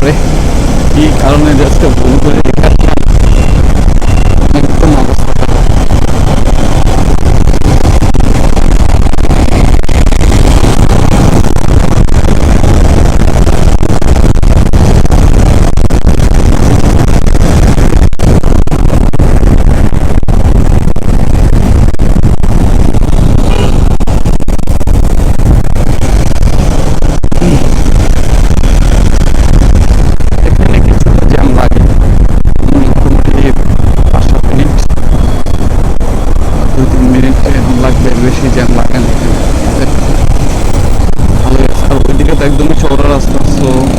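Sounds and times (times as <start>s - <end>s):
motorcycle engine: 0.0s - 43.9s
traffic noise: 0.0s - 43.9s
wind rushing over microphone: 0.0s - 43.9s.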